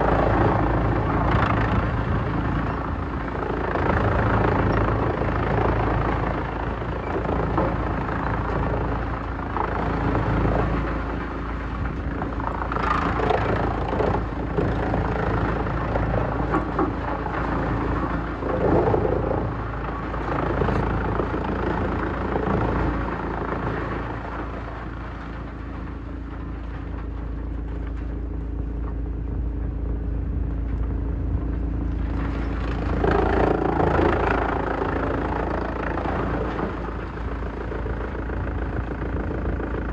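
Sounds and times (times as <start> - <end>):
wood shredder engine droning: 0.0 - 39.9.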